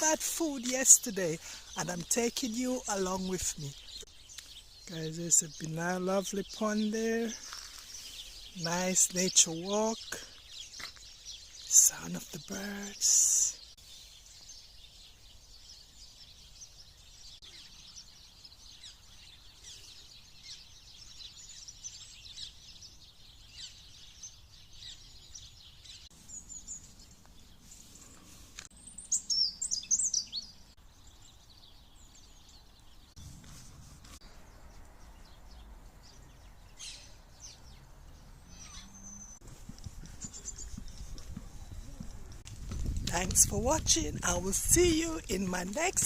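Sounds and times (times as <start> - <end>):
small songbirds chirping: 0.0 - 46.0.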